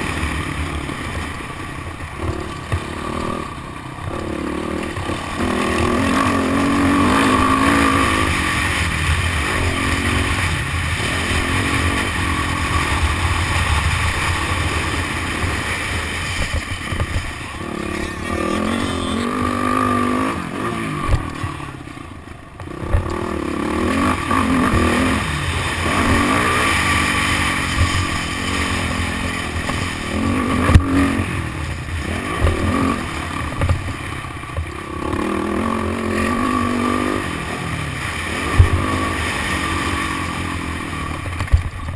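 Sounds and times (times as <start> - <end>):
dirt bike engine revving: 0.0 - 41.6.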